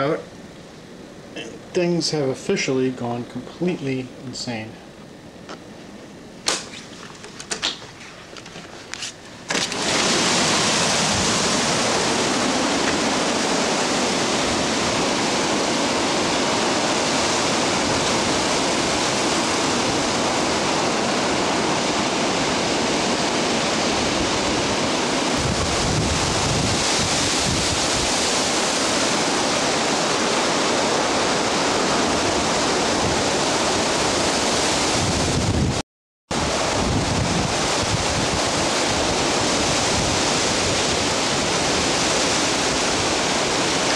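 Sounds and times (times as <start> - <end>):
strong wind rushing through trees: 0.0 - 43.9
wind noise on microphone: 6.5 - 43.9.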